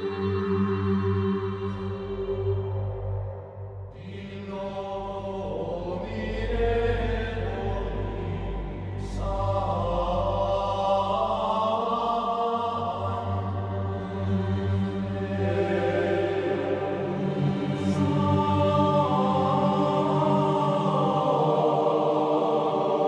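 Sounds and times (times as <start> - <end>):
voices chanting long held notes: 4.0 - 23.0.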